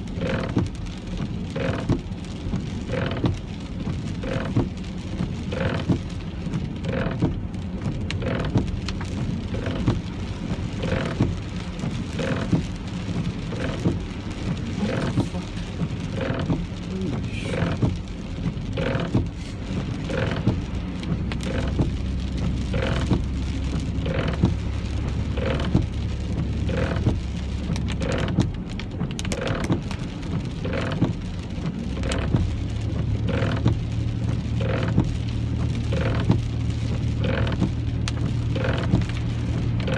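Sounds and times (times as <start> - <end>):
engine and tyre hum: 0.0 - 39.9
rain patter on car: 0.0 - 39.9
windshield wipers beating: 0.0 - 39.9.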